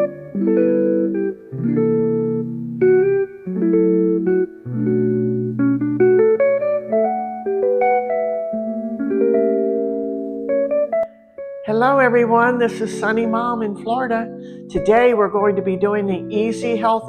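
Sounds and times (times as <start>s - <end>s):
plucked string chords: 0.0s - 17.0s.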